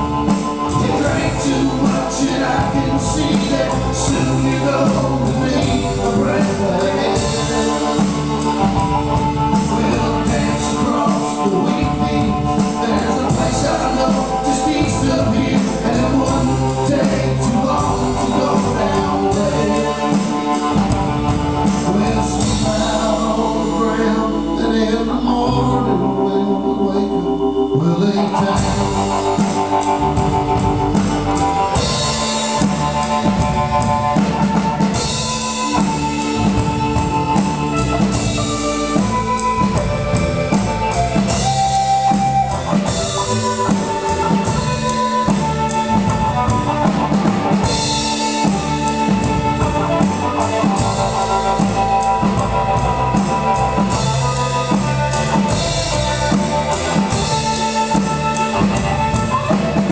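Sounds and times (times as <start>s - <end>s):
drums: 0.0s - 59.9s
electric guitar: 0.0s - 59.9s
upright bass: 0.0s - 59.9s.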